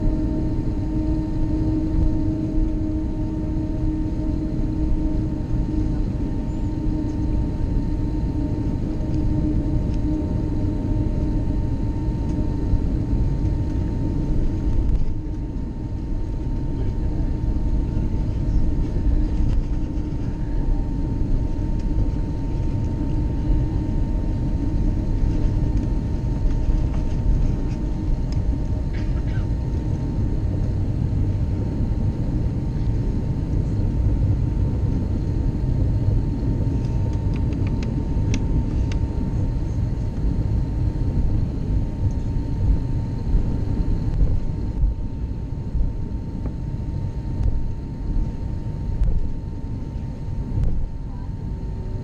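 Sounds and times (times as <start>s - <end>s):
jet engine low rumble: 0.0s - 52.0s.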